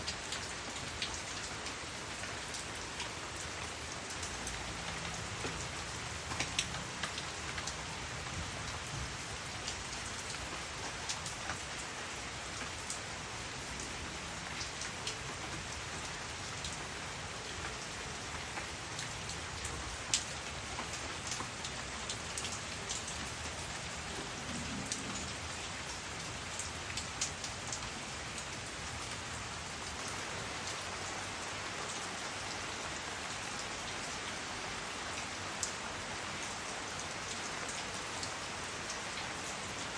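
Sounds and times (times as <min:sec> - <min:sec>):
raindrops ticking: 0:00.0 - 0:34.4
steady rainfall hiss: 0:00.0 - 0:39.9.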